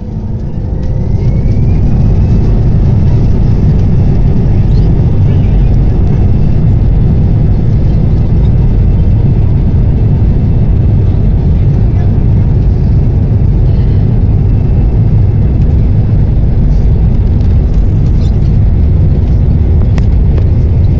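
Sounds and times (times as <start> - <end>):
jet engines spooling up: 0.0 - 20.9.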